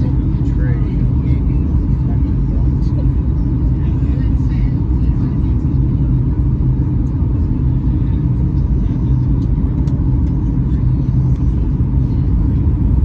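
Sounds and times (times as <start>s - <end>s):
aircraft cabin rumble: 0.0s - 13.0s
steady low hum: 0.0s - 13.0s.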